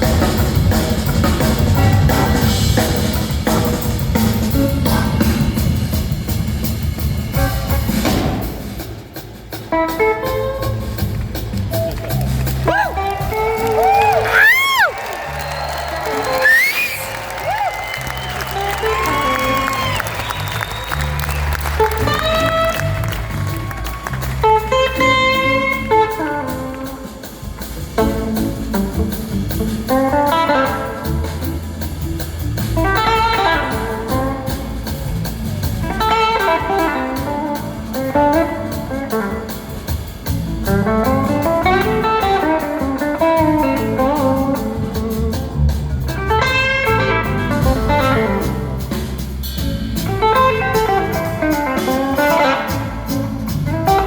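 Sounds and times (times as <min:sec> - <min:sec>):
electric guitar lead: 0:00.0 - 0:08.8, 0:09.5 - 0:54.0
bass: 0:00.0 - 0:54.0
drums: 0:00.0 - 0:54.0.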